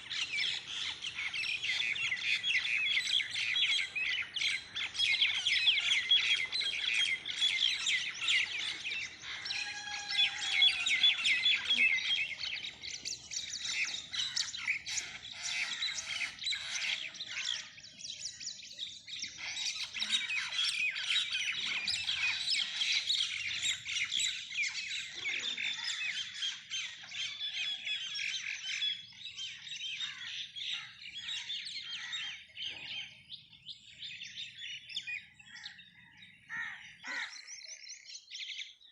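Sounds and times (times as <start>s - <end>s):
birds squawking and chirping: 0.0s - 38.9s.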